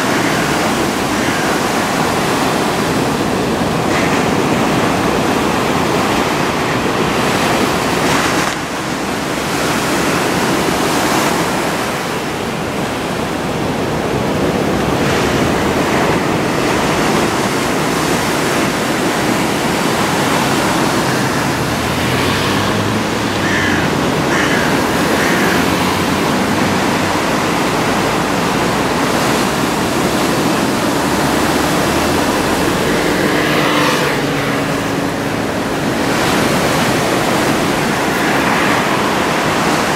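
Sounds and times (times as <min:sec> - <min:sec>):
heavy surf waves breaking: 0:00.0 - 0:39.9.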